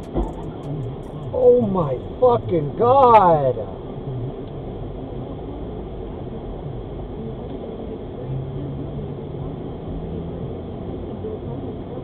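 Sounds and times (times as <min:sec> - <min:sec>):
car engine and road noise: 0:00.0 - 0:12.0
low steady hum: 0:00.0 - 0:12.0.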